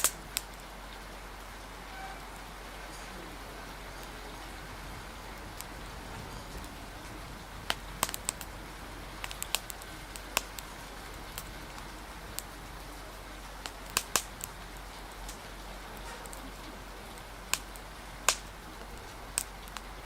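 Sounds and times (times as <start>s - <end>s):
rain hissing: 0.0s - 20.0s
wind: 0.0s - 20.0s
wood fire crackling and popping: 0.0s - 20.0s.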